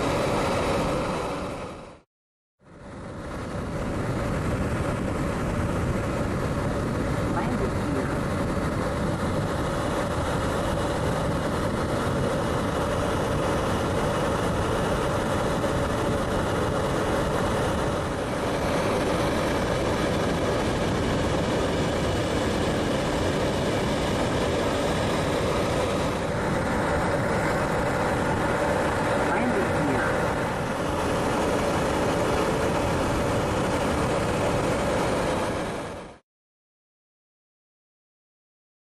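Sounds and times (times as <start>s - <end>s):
engine drone: 0.0s - 2.0s, 2.6s - 36.2s.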